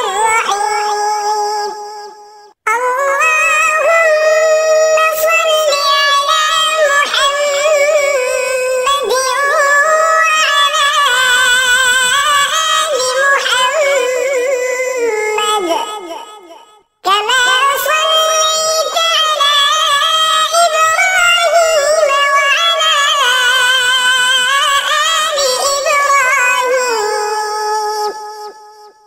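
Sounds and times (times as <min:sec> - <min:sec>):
high voice singing a chant: 0:00.0 - 0:29.0.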